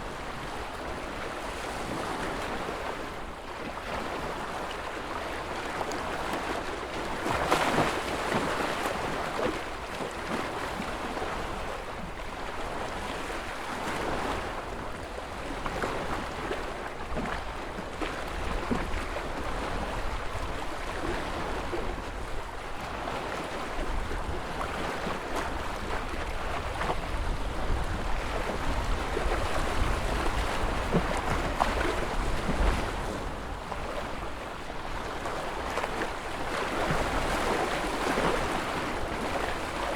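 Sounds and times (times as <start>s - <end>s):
waves breaking: 5.6s - 39.9s.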